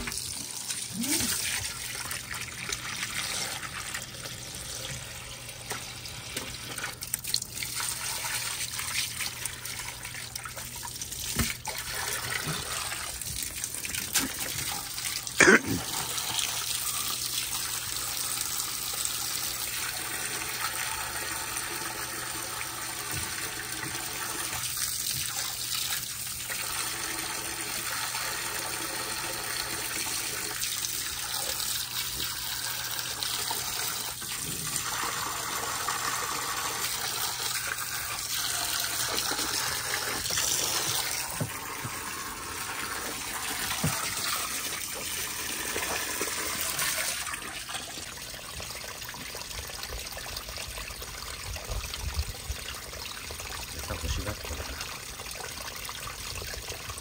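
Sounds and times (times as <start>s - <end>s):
water running and trickling: 0.0s - 57.0s.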